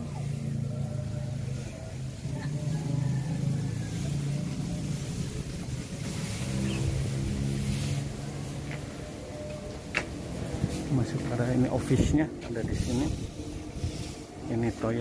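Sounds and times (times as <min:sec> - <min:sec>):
engine humming: 0:00.0 - 0:15.0
steady hiss: 0:00.0 - 0:15.0.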